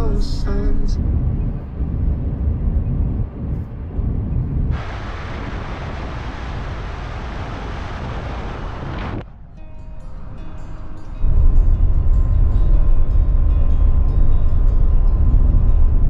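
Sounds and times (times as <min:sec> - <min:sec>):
engine and road rumble: 0:00.0 - 0:16.0
wind and tyre noise: 0:00.0 - 0:16.0.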